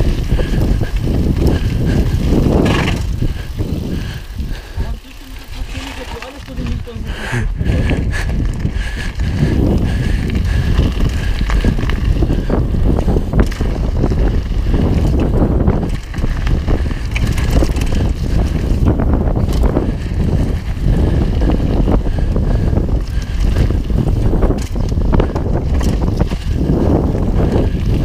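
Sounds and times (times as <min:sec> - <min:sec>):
bike clicks and rattles: 0:00.0 - 0:28.0
bike tyres on gravel: 0:00.0 - 0:28.0
wind on microphone: 0:00.0 - 0:28.0.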